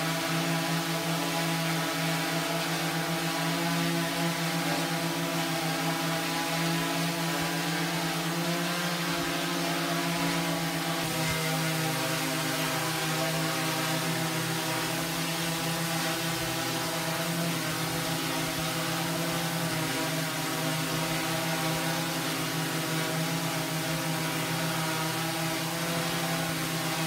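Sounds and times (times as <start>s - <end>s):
drone propellers humming: 0.0s - 27.0s.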